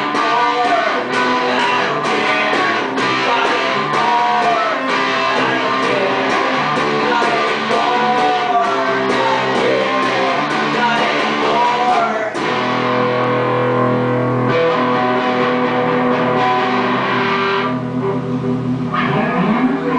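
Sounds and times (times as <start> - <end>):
electric guitars playing chords: 0.0 - 19.9.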